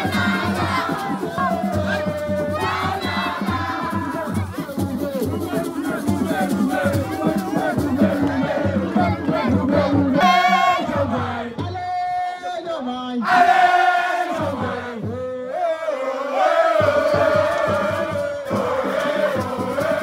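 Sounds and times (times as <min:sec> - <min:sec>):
music: 0:00.0 - 0:20.0
voices chanting and singing: 0:00.0 - 0:20.0.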